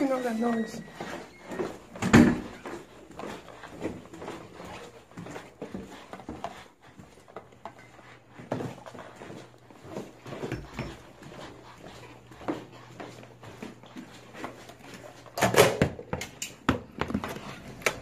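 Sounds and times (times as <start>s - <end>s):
footsteps on carpeted stairs: 0.0s - 18.0s.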